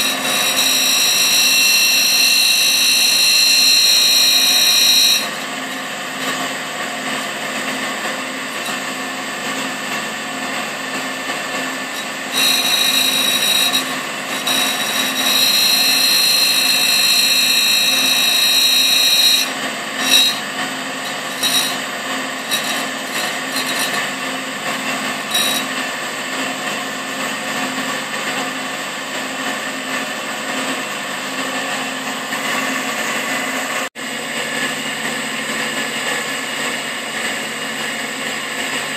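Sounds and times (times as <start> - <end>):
grinder machine humming: 0.0 - 38.9
high-pitched grinding whine: 0.0 - 38.9.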